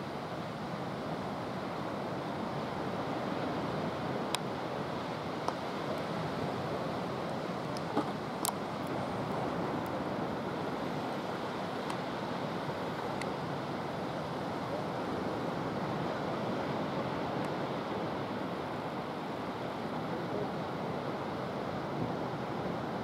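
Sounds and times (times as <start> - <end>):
surf breaking on beach: 0.0 - 23.0.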